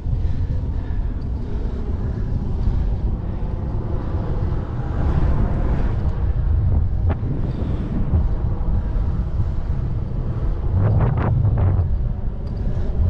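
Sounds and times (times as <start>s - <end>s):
bicycle tyre and road noise: 0.0s - 13.0s
wind rumbling on microphone: 0.0s - 13.0s.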